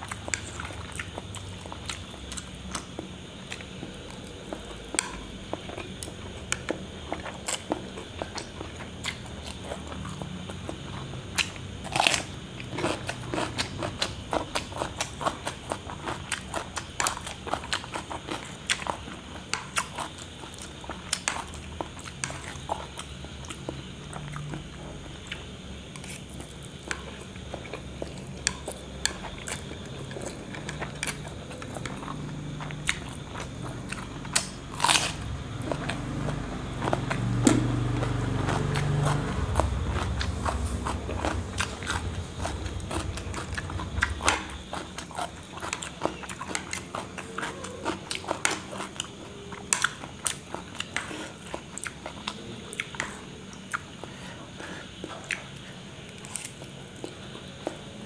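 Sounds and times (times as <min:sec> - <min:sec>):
crunchy cucumber bites: 0:00.0 - 0:53.8, 0:55.3 - 0:57.8
chewing and slurping noodles: 0:00.0 - 0:57.8.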